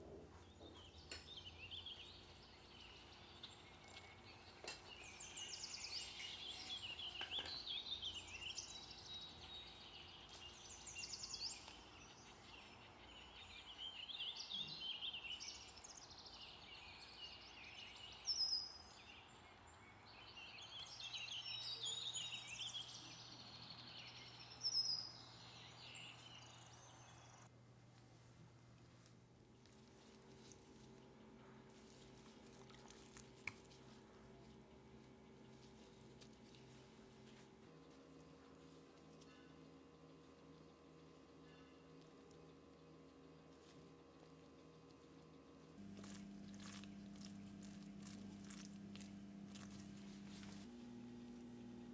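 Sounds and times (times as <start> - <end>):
small birds chirping: 0.3 - 27.5, 29.4 - 51.9.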